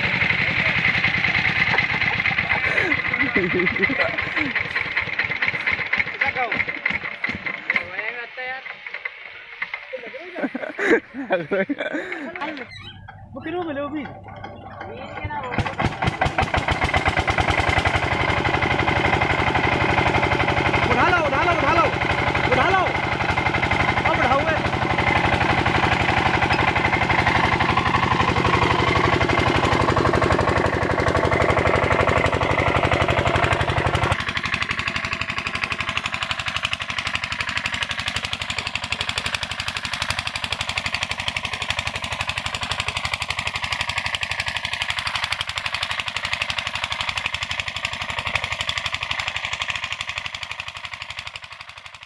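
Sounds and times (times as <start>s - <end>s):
diesel engine knocking: 0.0s - 52.0s.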